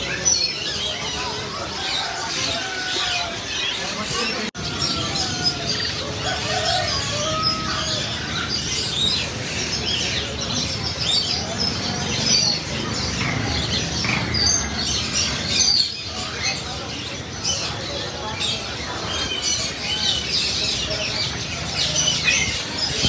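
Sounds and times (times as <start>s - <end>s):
birds chirping and whistling: 0.0s - 23.0s.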